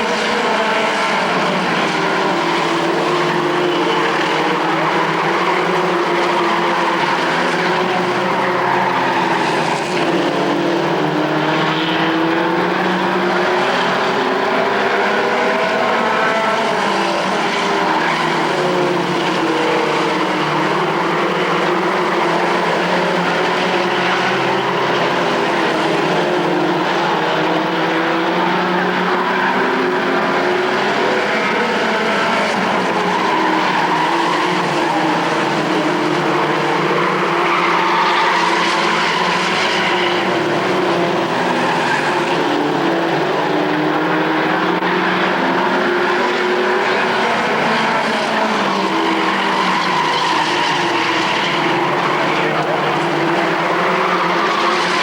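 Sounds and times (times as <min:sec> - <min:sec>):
race truck engines revving: 0:00.0 - 0:55.0.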